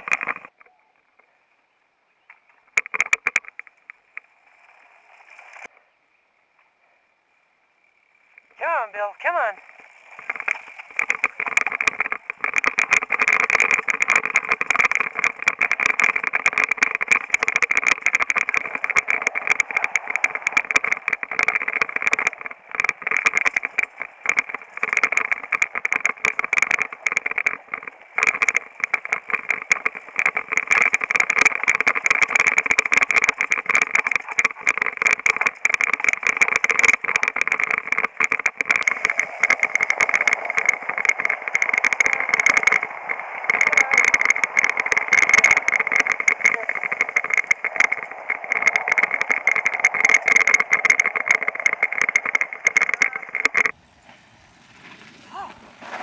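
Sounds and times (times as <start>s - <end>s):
mountain bike rattling on dirt trail: 0.0s - 0.6s, 2.3s - 5.7s, 7.3s - 56.0s.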